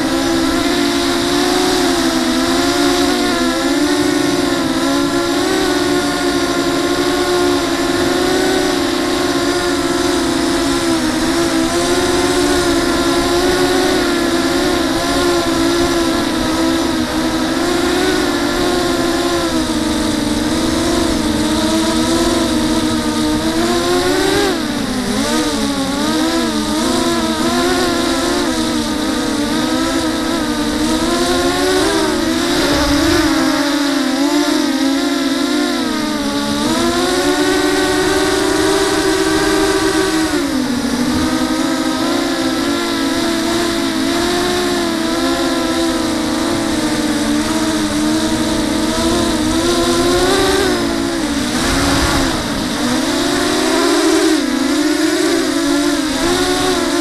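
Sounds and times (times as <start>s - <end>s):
quadcopter motors buzzing: 0.0s - 57.0s.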